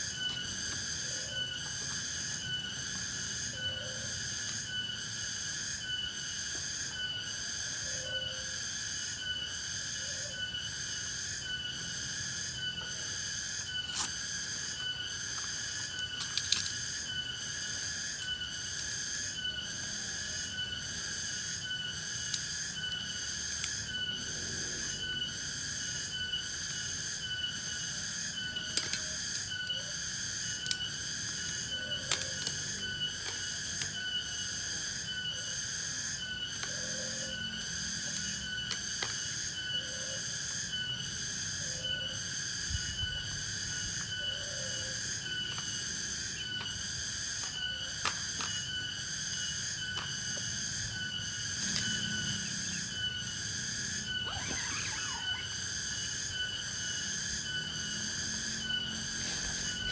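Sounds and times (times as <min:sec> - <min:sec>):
cicadas chorus: 0:00.0 - 0:59.9.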